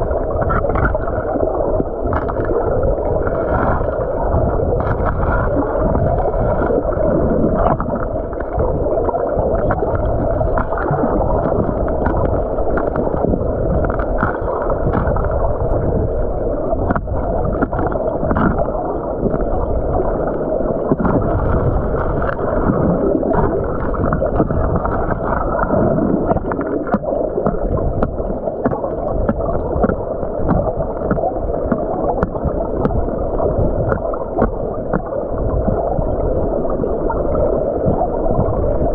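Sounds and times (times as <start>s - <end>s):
muffled rush of stream water: 0.0s - 38.9s.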